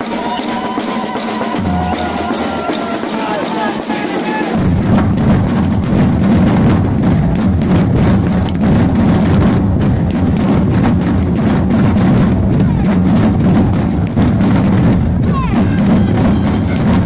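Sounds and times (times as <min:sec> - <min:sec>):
drums beating: 0:00.0 - 0:17.0
festive street procession music: 0:00.0 - 0:17.0.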